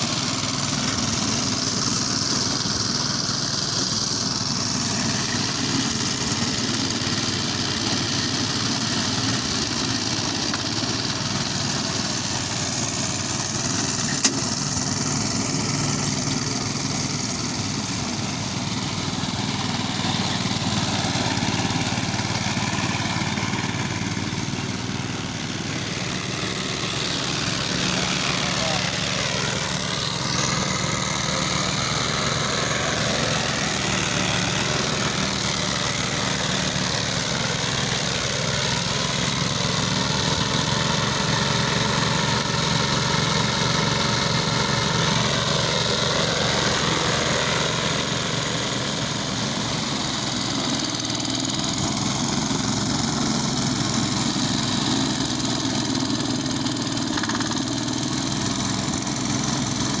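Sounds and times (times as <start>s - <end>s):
lawn mower engine running: 0.0s - 60.0s.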